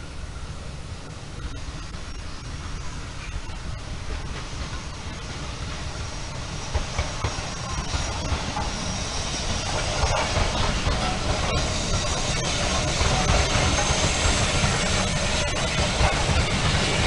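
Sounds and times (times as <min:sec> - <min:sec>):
steam locomotive hiss and rumble: 0:00.0 - 0:17.0.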